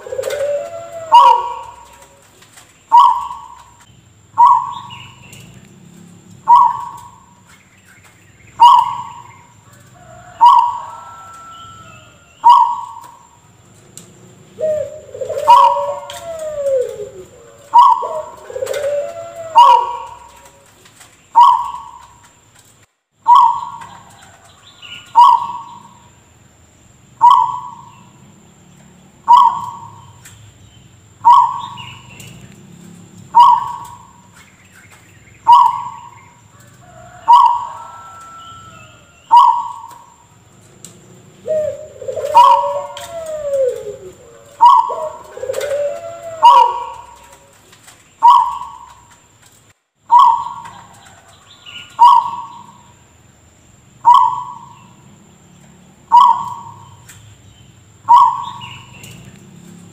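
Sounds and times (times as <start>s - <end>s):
gliding bird calls: 0.0s - 22.4s, 23.2s - 26.1s, 27.2s - 28.3s, 29.2s - 49.4s, 50.0s - 53.0s, 53.9s - 55.1s, 56.0s - 59.4s.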